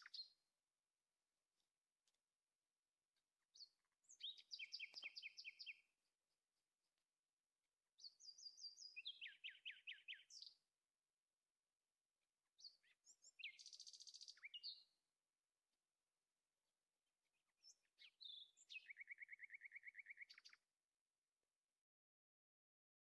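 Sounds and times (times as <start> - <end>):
faint bird song: 0.0 - 0.8, 1.4 - 21.7.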